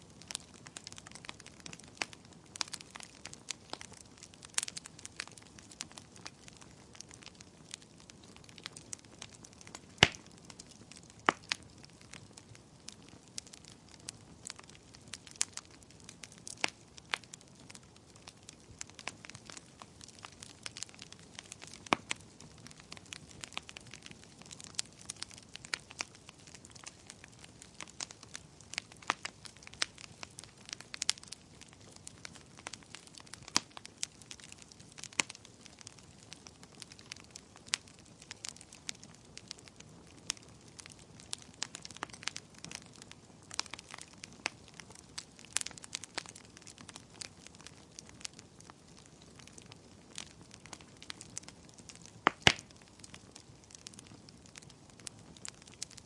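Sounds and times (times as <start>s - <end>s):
low steady hiss: 0.0s - 56.0s
wood fire crackling and popping: 0.0s - 56.0s.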